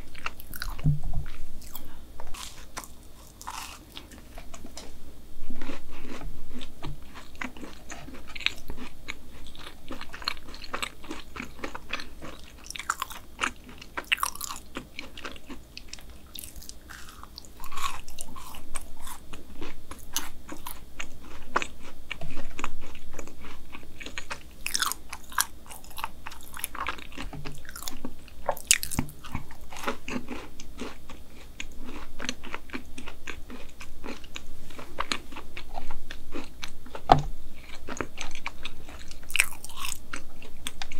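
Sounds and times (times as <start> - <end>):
chewing with mouth clicks: 0.1 - 4.8, 5.6 - 40.9.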